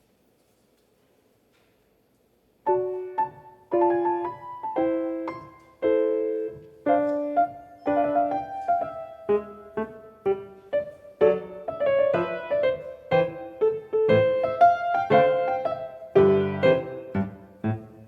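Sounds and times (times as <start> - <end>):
piano chords: 2.6 - 18.0.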